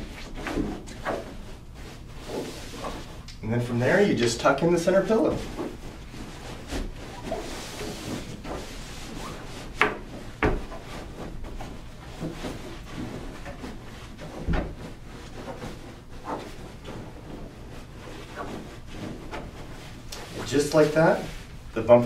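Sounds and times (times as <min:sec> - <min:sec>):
fabric rustling: 0:00.0 - 0:03.3, 0:03.9 - 0:22.0.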